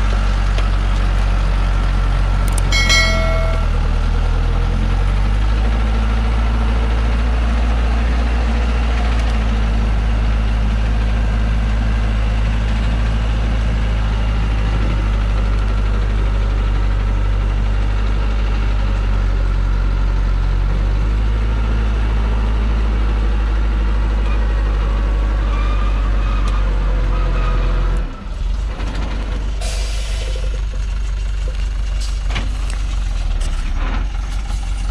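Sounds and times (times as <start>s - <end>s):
diesel truck engine under load: 0.0s - 34.9s.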